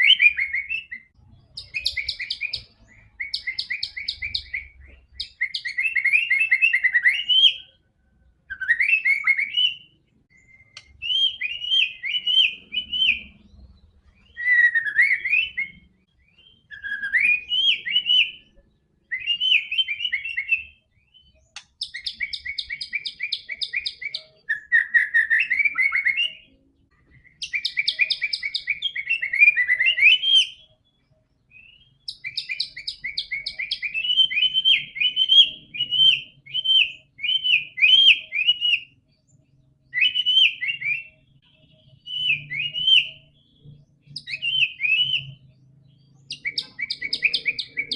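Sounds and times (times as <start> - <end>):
bird singing whistled phrases: 0.0 - 13.6, 14.2 - 47.9.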